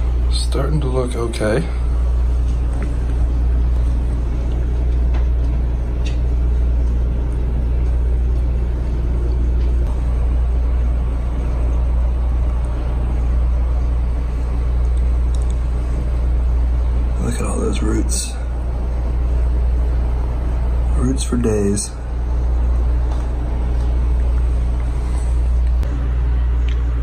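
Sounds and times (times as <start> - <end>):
low rumbling hum: 0.0 - 27.0.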